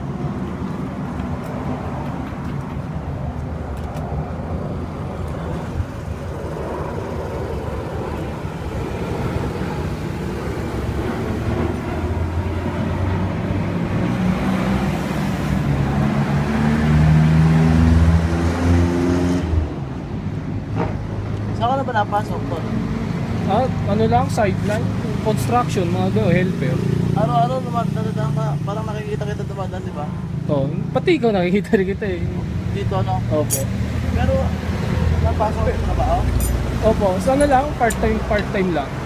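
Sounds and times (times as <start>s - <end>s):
road traffic rumble: 0.0s - 39.0s
vehicle engine: 0.0s - 39.0s.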